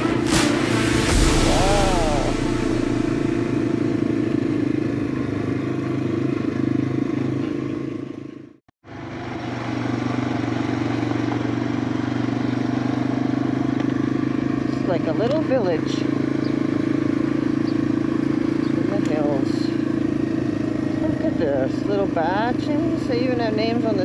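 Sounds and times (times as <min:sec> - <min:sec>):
motorcycle engine running steadily: 0:00.0 - 0:24.0.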